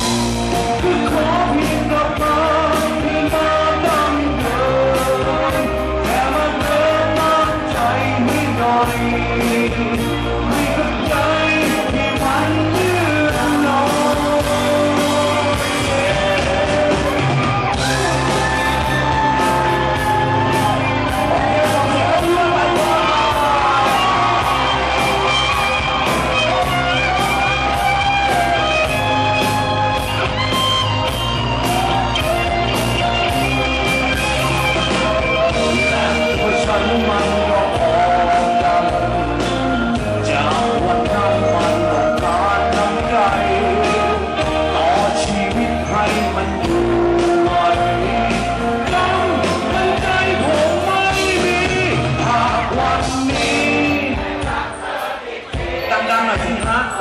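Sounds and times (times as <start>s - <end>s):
person singing: 0.0s - 57.0s
rock band playing: 0.0s - 57.0s.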